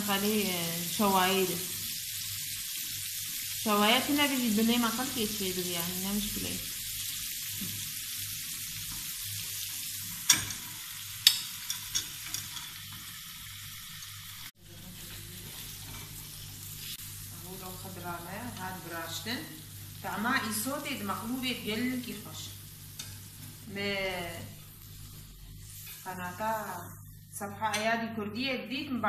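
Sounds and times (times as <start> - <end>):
food sizzling in grill pan: 0.0 - 27.8.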